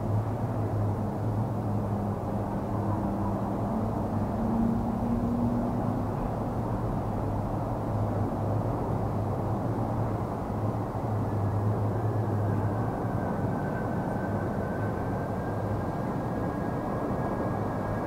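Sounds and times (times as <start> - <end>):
high jet whine: 0.0 - 18.0
jet engine rumble: 0.0 - 18.0.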